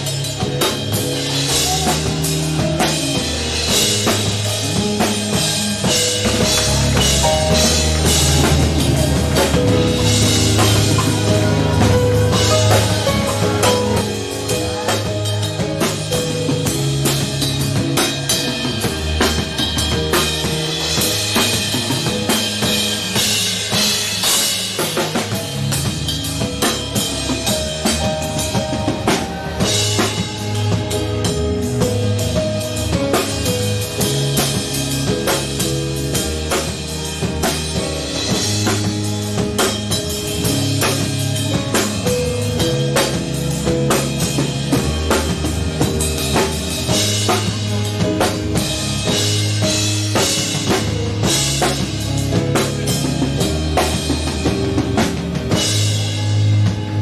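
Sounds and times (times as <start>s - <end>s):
drum kit: 0.0s - 57.0s
live band music: 0.0s - 57.0s.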